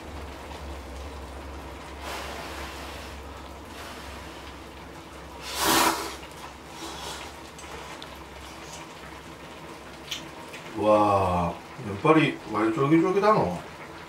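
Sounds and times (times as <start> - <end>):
broth simmering with bubbling hiss: 0.0 - 14.0.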